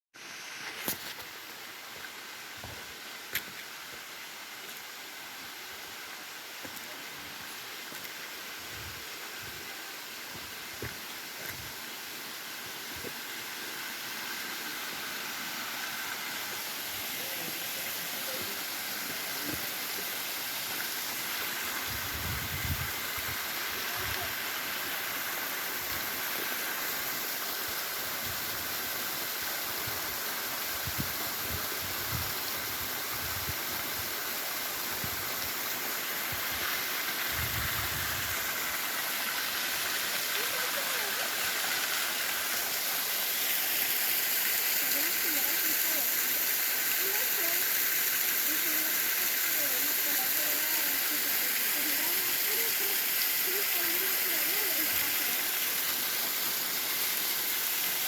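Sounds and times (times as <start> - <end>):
small waterfall rushing: 0.2 - 58.0.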